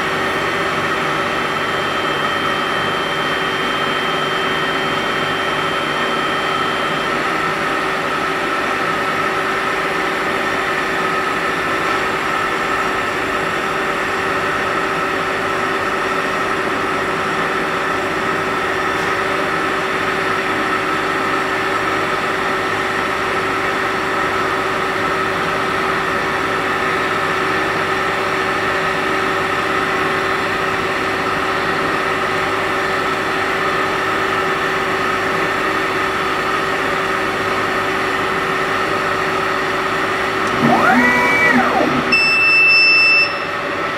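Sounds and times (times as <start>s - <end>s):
laser cutter humming and whining: 0.0s - 43.9s.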